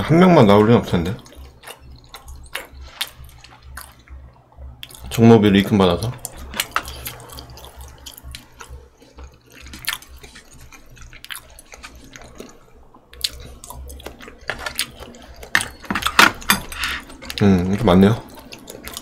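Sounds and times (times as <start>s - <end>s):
low steady hum: 0.0s - 19.0s
wet chewing: 1.2s - 5.2s, 6.2s - 19.0s.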